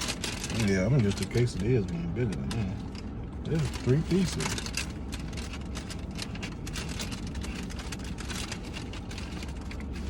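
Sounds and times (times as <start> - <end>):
car idling: 0.0 - 10.0.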